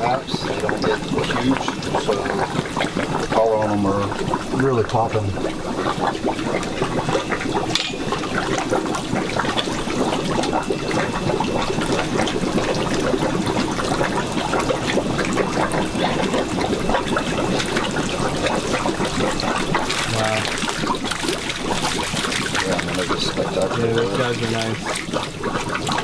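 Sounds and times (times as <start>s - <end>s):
water churning and splashing: 0.0s - 26.0s.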